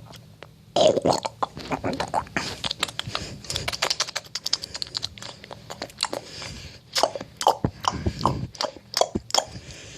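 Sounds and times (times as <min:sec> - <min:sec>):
wet mouth noises: 0:00.0 - 0:09.8.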